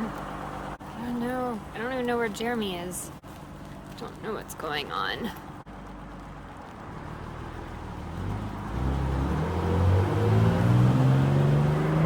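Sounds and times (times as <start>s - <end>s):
diesel bus engine accelerating: 0.0s - 3.2s, 4.3s - 12.0s.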